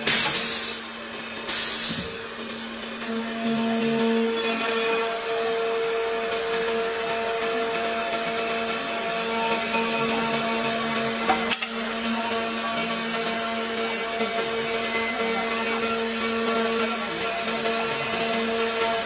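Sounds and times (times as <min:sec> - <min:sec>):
milling spindle whine: 0:03.0 - 0:19.0.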